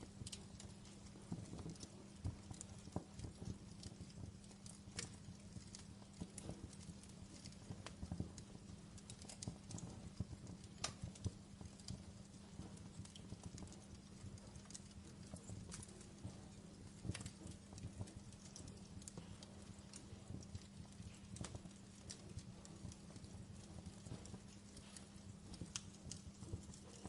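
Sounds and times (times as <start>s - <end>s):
faint low hum: 0.0s - 27.0s
logs crackling in fireplace: 0.0s - 27.0s.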